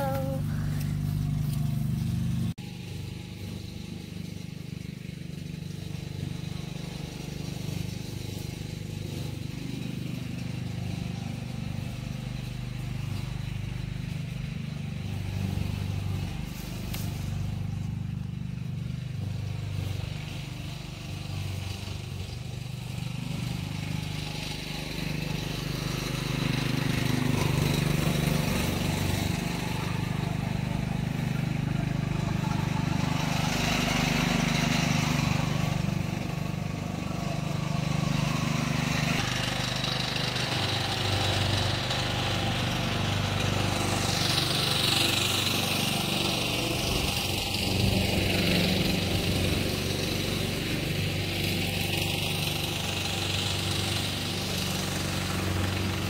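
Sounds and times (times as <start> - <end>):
low engine-like drone: 0.0 - 56.0.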